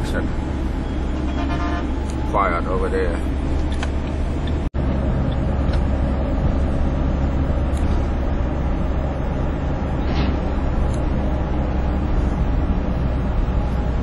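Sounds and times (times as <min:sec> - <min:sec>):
highway traffic rumble: 0:00.0 - 0:14.0.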